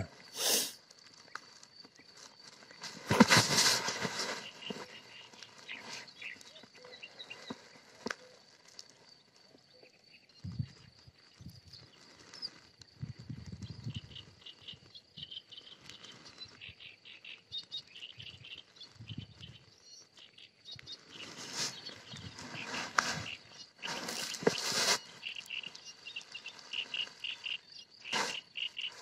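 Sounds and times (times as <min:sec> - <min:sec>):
rustling noise: 0:00.0 - 0:09.6, 0:10.4 - 0:16.8, 0:17.7 - 0:29.0.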